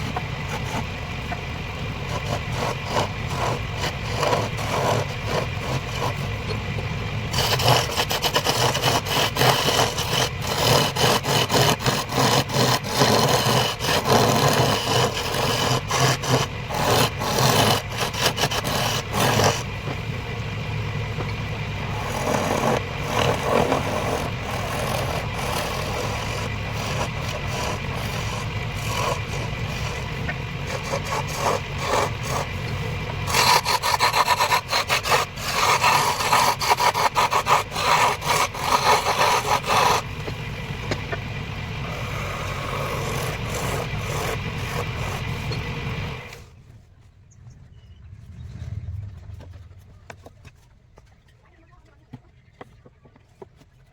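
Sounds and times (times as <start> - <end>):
lathe motor hum: 0.0 - 46.5
chisel scraping spinning wood: 0.0 - 46.6.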